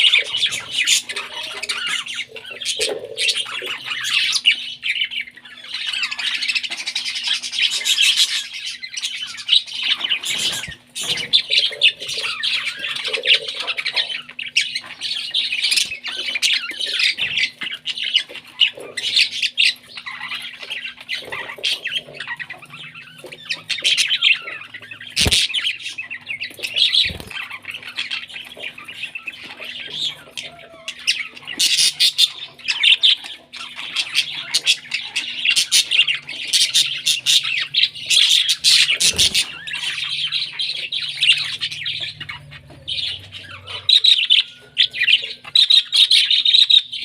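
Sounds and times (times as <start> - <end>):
parrot chicks squawking begging calls: 0.0 - 47.0.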